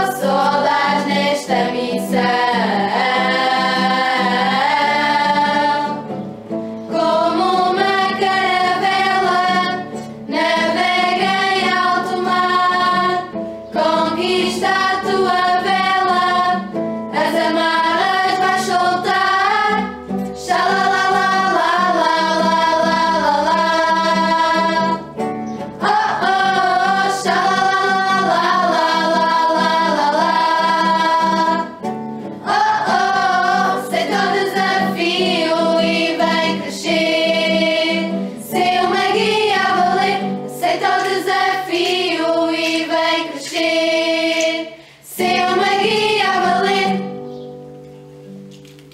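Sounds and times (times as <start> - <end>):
women singing a hymn: 0.0 - 47.4
guitar accompaniment: 0.0 - 48.9.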